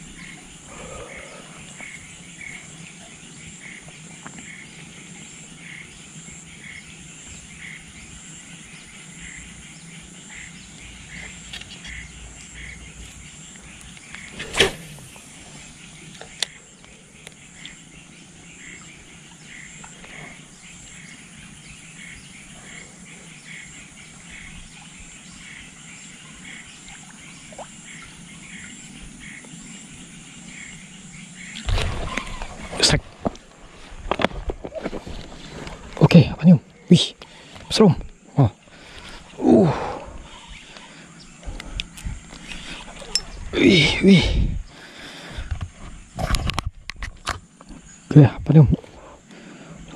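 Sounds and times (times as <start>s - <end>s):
insect chorus with trills: 0.0s - 49.9s.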